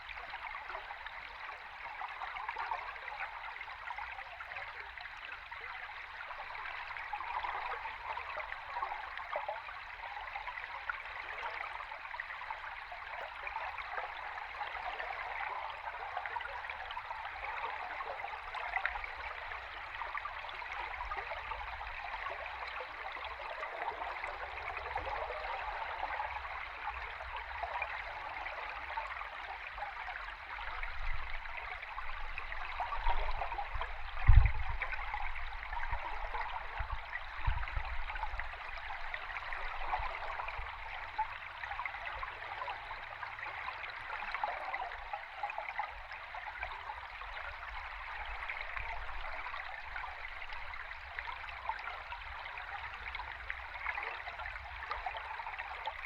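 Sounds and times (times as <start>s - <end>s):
underwater stream bubbling: 0.0s - 56.0s.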